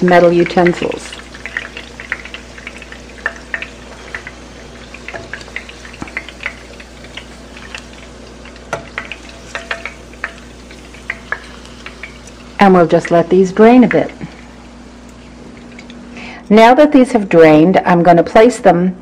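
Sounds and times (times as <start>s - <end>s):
oil crackling and popping: 0.0s - 16.3s
chicken sizzling in hot oil: 0.0s - 16.6s.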